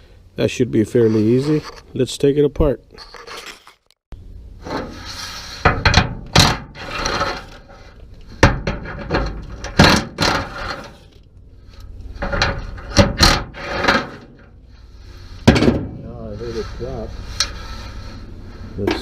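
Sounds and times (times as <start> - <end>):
rubbing and scraping: 0.8 - 2.0, 2.9 - 4.0, 4.6 - 19.0.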